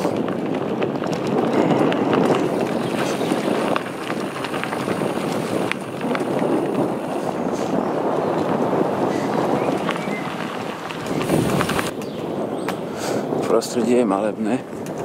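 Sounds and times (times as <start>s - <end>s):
footsteps crunching on dirt path: 0.0s - 12.8s
constant noisy rumble: 0.0s - 15.0s.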